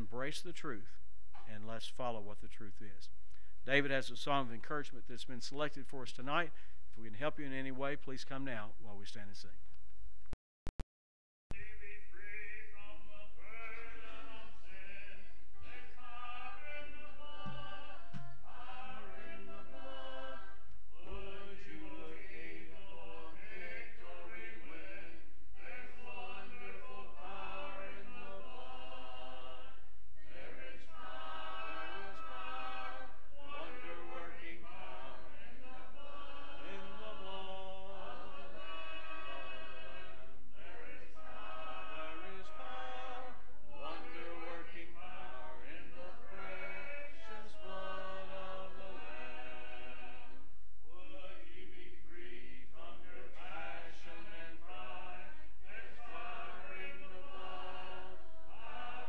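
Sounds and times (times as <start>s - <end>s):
congregation singing a cappella: 11.5s - 59.0s.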